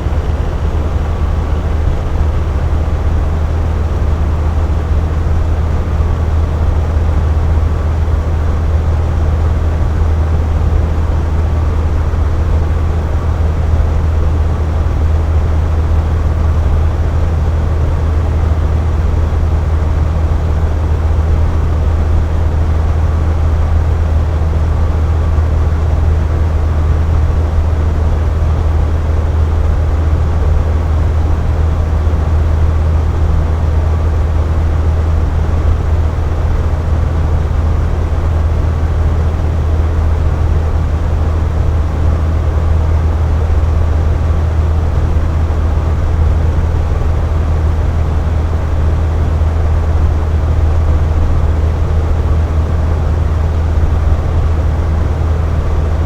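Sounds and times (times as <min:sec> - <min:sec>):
box fan running: 0:00.0 - 0:56.0.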